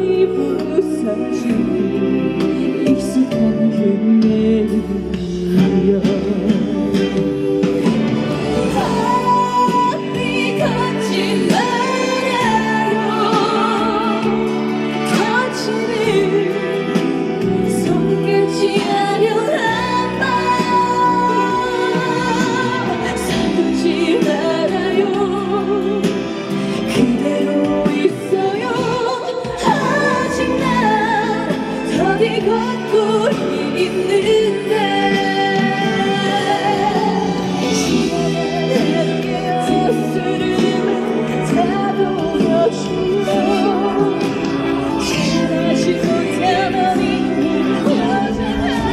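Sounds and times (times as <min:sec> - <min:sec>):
backing track music: 0:00.0 - 0:48.9
woman singing ballad: 0:00.0 - 0:48.9.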